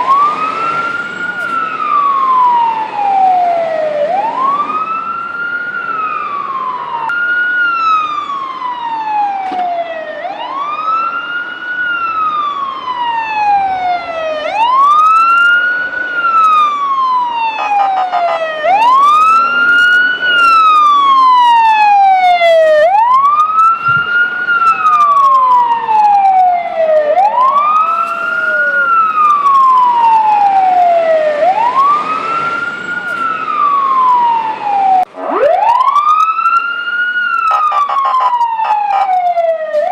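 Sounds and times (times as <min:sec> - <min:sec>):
fire engine siren wailing: 0:00.0 - 0:39.9.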